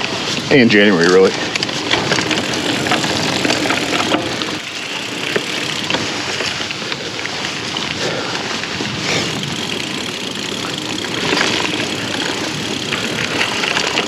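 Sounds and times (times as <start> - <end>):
bike clicks and rattles: 0.0 - 14.0
bike tyres on dirt: 0.0 - 14.0.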